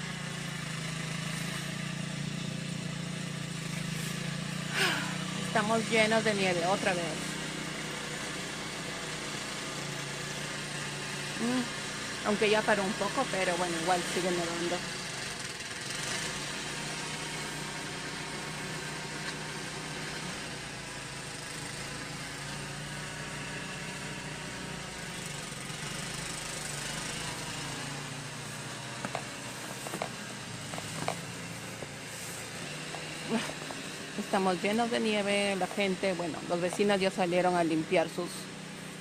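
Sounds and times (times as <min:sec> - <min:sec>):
engine idling hum: 0:00.0 - 0:39.0.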